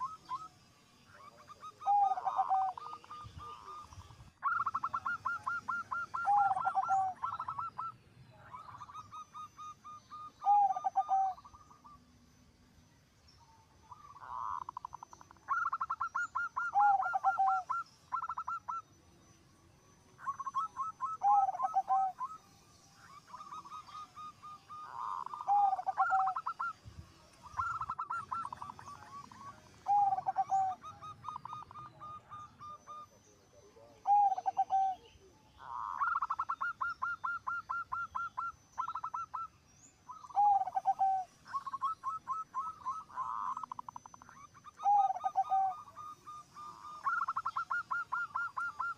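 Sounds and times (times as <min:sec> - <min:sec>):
dove cooing: 0:00.0 - 0:12.0, 0:13.8 - 0:18.8, 0:20.2 - 0:22.4, 0:23.1 - 0:26.8, 0:27.4 - 0:39.5, 0:40.1 - 0:48.9.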